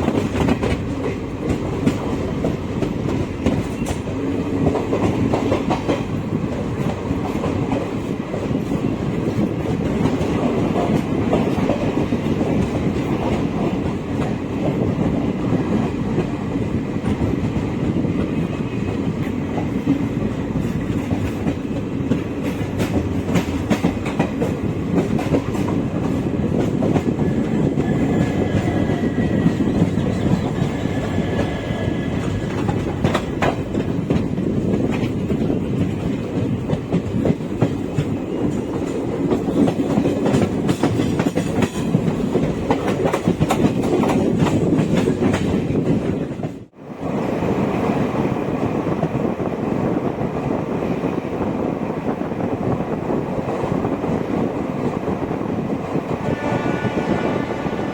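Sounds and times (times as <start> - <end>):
train coaches rumbling: 0.0 - 57.9.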